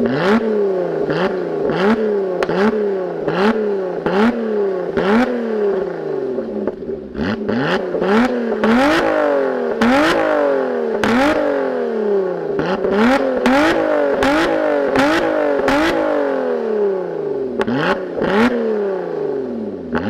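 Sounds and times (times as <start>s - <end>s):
car engine revving in blips: 0.0s - 20.0s.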